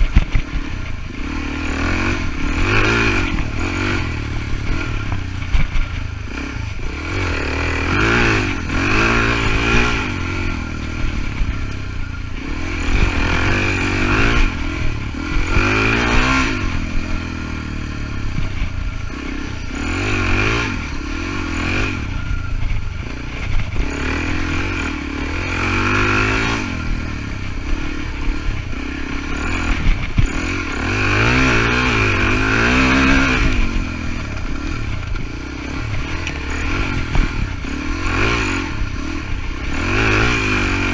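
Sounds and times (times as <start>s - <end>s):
bike clatter and rattling: 0.0s - 40.9s
dirt bike engine revving: 0.0s - 40.9s.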